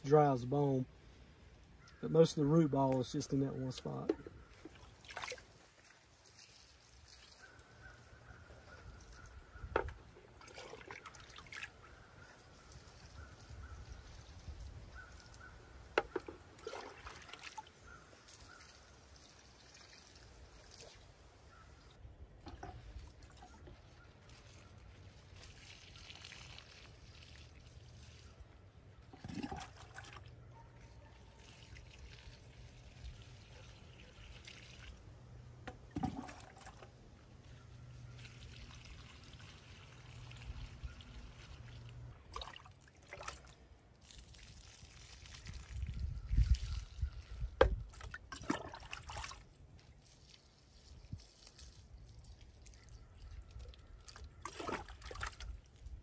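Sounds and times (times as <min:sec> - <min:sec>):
water trickling onto soil: 0:01.8 - 0:56.0
cup dipped into bucket of water: 0:03.8 - 0:21.1, 0:21.8 - 0:56.0.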